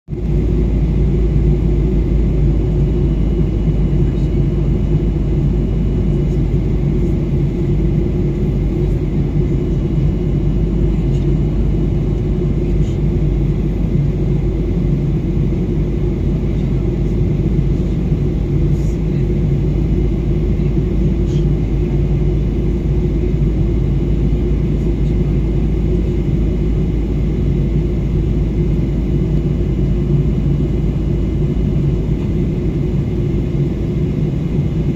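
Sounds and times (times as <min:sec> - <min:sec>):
jet engine and airflow rumble: 0:00.1 - 0:34.9
faint high hum: 0:00.2 - 0:34.9.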